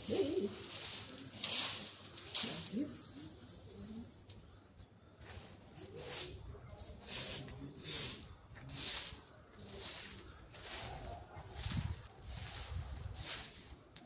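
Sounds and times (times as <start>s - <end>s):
broom sweeping leaves: 0.0s - 4.2s, 5.2s - 14.0s.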